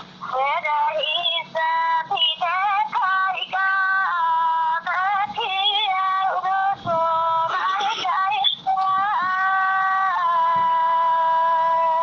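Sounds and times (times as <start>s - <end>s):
woman singing folk song: 0.1s - 12.0s.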